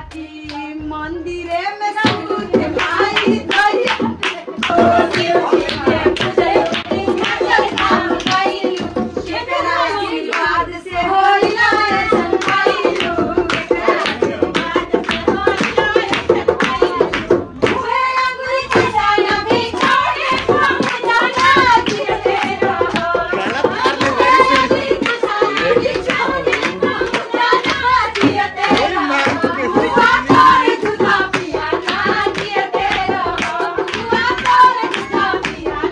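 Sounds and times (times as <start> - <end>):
rhythmic hand-clapping: 0.0 - 0.8, 2.0 - 35.9
women singing folk song: 0.0 - 35.9
barrel drum: 2.0 - 35.9.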